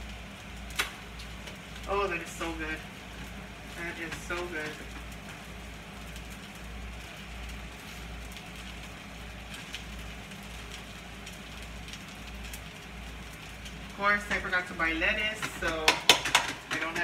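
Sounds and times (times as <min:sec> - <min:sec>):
food frying sizzle: 0:00.0 - 0:17.0.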